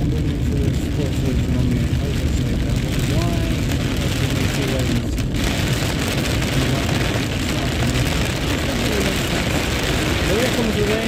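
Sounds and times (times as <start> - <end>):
heavy rain on car roof: 0.0 - 11.0
tyres on wet road: 0.0 - 11.0.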